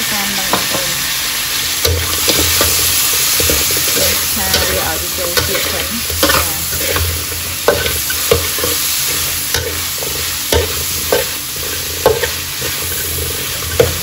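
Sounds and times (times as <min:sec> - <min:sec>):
chicken sizzling in a wok: 0:00.0 - 0:14.0
metal spatula scraping a wok: 0:01.8 - 0:14.0.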